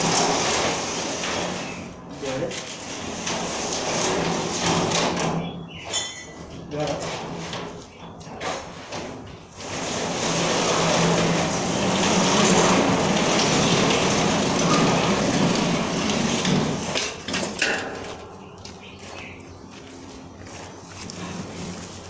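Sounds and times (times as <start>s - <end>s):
garage door rolling rumble: 0.0s - 22.0s.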